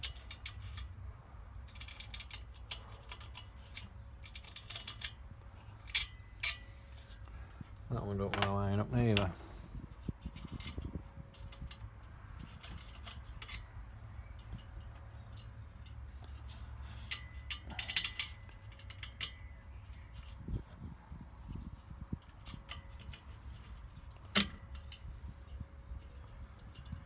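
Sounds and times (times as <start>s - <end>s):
metal parts clicking and clinking: 0.0s - 9.4s, 10.2s - 20.4s, 22.2s - 27.0s
low steady hum: 0.0s - 27.0s.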